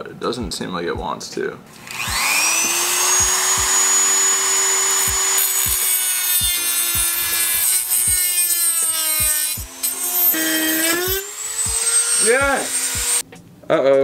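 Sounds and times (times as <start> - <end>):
cut-off wheel cutting metal: 1.7 - 13.2
rotary tool whining: 1.7 - 13.2.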